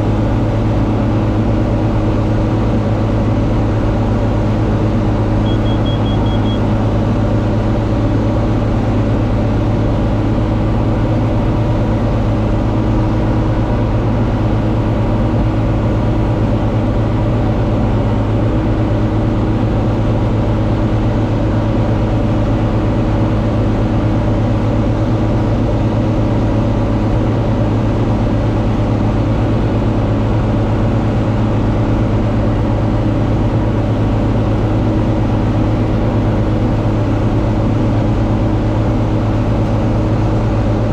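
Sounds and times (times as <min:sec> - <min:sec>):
tractor diesel engine droning: 0:00.0 - 0:40.9.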